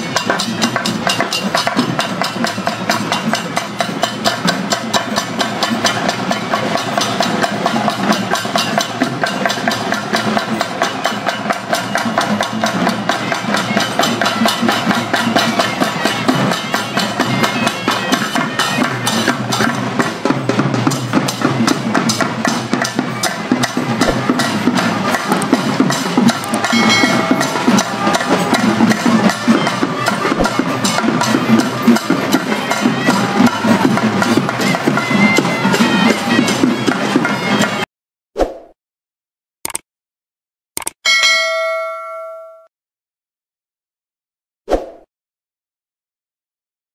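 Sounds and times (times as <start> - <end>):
drums and percussion beating: 0.0 - 37.9.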